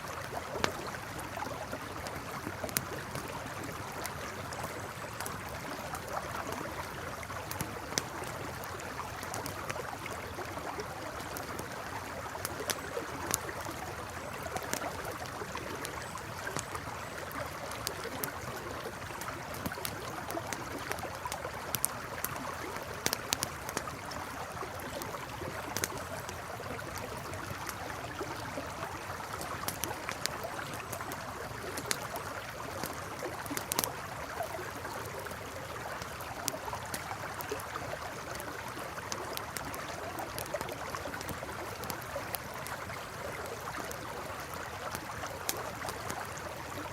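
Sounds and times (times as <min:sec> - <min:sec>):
campfire crackling and popping: 0:00.0 - 0:46.9
river flowing: 0:00.0 - 0:46.9.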